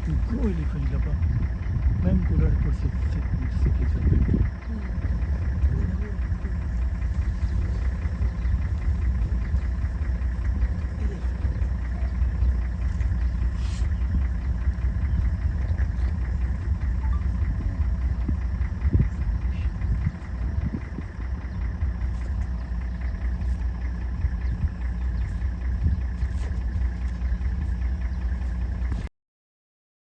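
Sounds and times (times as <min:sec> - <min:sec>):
vehicle engine rumble: 0:00.0 - 0:29.1.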